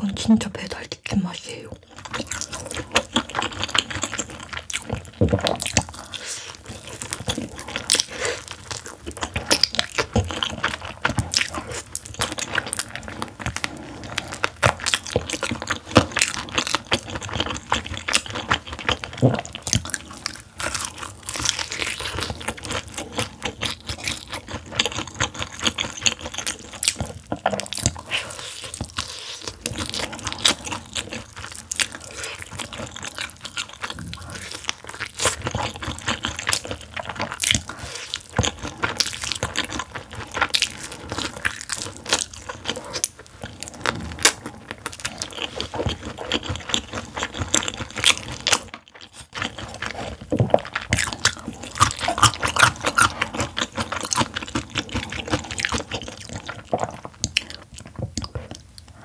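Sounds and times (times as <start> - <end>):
crunching and chewing fried chicken: 1.5 - 59.0.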